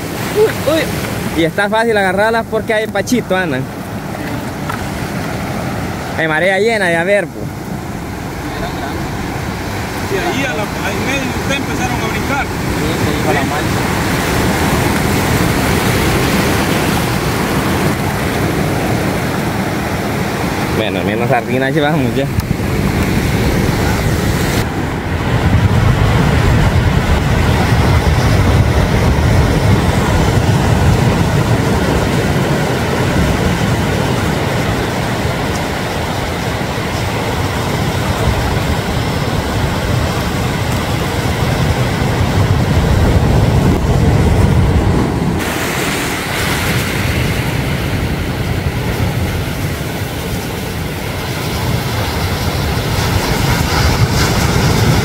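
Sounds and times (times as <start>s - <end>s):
sea surf rushing: 0.0s - 55.0s
wind buffeting microphone: 0.0s - 55.0s.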